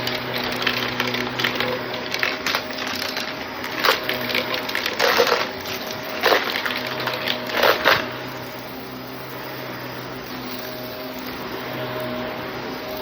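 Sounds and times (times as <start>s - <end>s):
debris rattling through vacuum: 0.0s - 13.0s
vacuum cleaner running: 0.0s - 13.0s.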